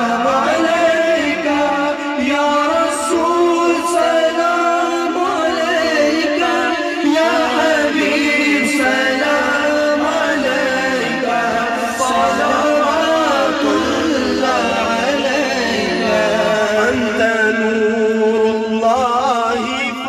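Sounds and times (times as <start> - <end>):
men singing together: 0.0 - 20.0.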